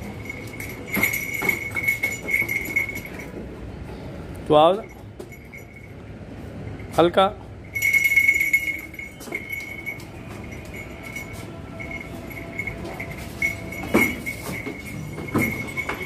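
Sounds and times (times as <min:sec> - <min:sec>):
goat collar bell jingling: 0:00.0 - 0:03.4, 0:04.7 - 0:16.0.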